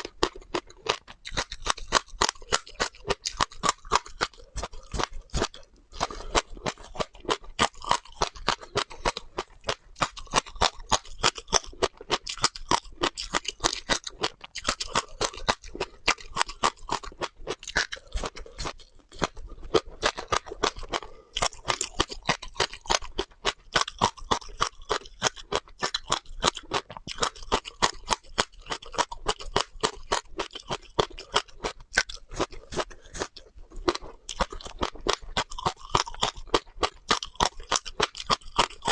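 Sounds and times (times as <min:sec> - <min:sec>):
chewing crunchy seeds: 0:00.0 - 0:38.9.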